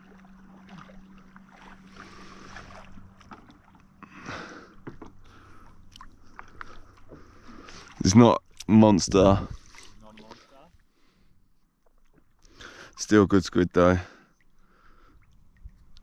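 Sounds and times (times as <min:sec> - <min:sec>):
water lapping around kayak: 0:00.0 - 0:16.0.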